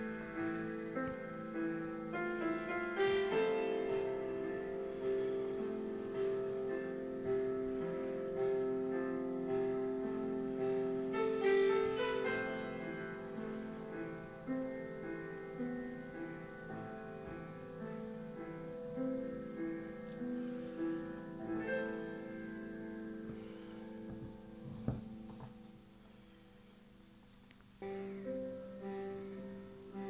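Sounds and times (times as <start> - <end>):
slow piano melody: 0.0 - 30.0.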